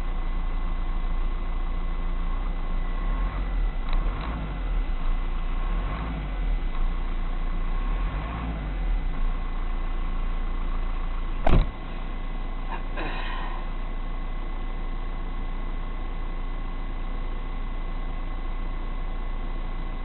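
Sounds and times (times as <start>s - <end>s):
vehicle hum: 0.0s - 20.0s.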